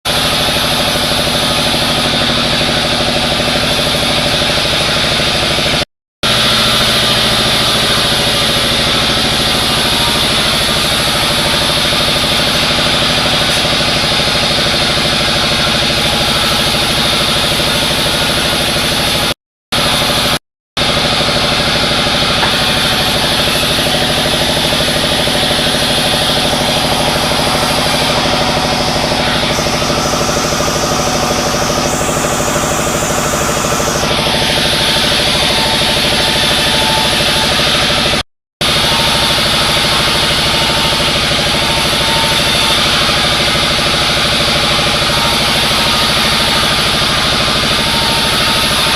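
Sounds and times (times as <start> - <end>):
wood saw machinery running: 0.1 - 48.9.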